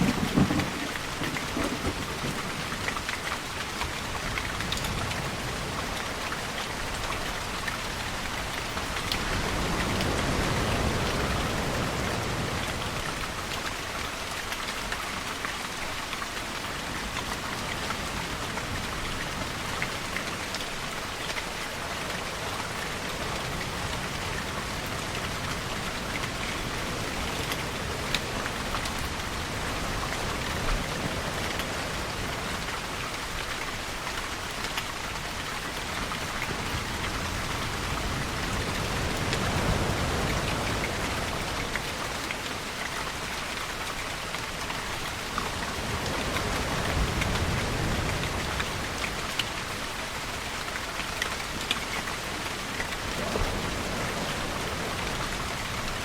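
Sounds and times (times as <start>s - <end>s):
heavy rainfall: 0.0s - 56.0s
raindrops ticking on a surface: 0.0s - 56.0s.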